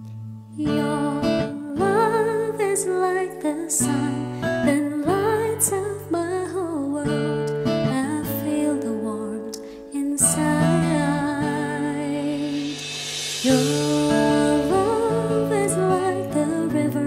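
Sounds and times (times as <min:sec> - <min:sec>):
acoustic guitar: 0:00.0 - 0:17.0
person singing a slow ballad: 0:00.4 - 0:17.0.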